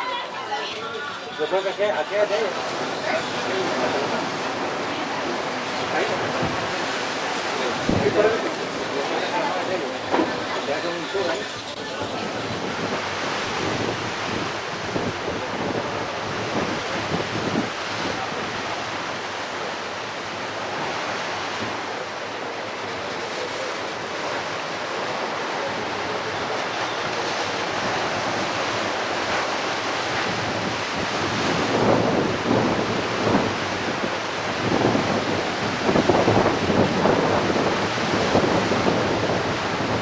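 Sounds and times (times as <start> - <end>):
surf washing onto beach: 0.0 - 40.0
wind buffeting microphone: 0.0 - 40.0.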